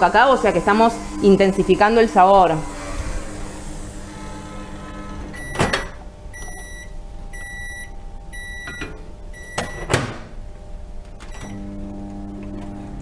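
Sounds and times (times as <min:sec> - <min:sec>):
microwave oven hum: 0:00.0 - 0:13.0.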